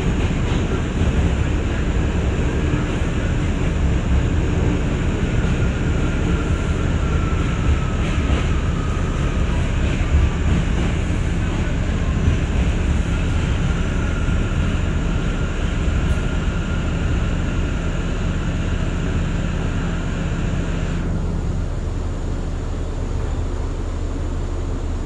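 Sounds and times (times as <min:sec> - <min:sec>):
subway train rumble and hum: 0:00.0 - 0:25.0.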